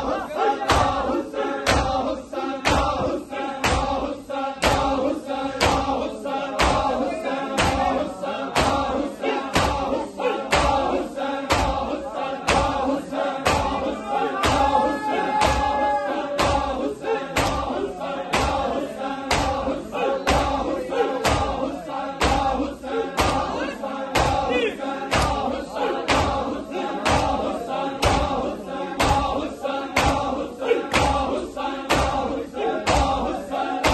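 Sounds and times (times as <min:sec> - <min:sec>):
crowd chanting a lament: 0:00.0 - 0:33.9
crowd slapping chests: 0:00.0 - 0:33.9.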